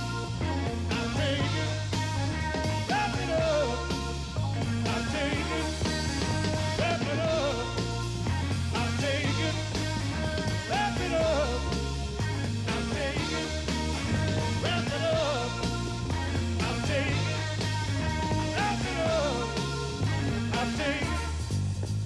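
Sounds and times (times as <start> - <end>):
person singing: 0.0 - 21.5
rock music with bass line: 0.0 - 22.0.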